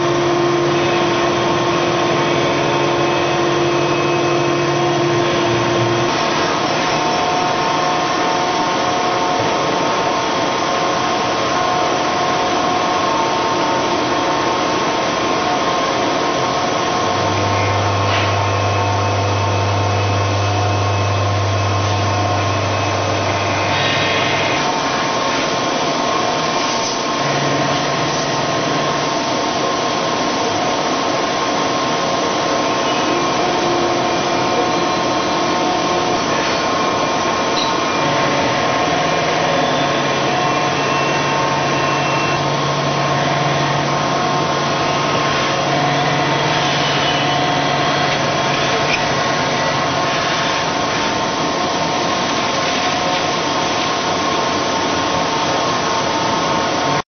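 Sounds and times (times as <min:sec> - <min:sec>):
milling machine cutting metal: 0:00.0 - 0:57.0.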